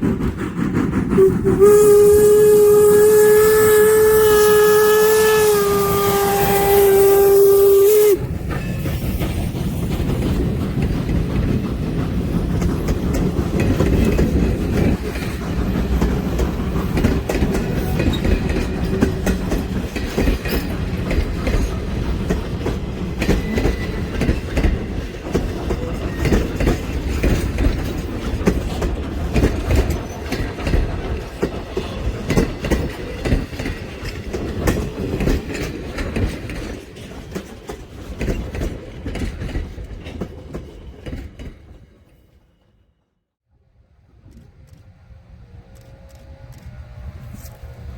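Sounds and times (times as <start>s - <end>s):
train wheels clacking over rail joints: 0.0s - 42.1s
low train rumble: 0.0s - 47.9s.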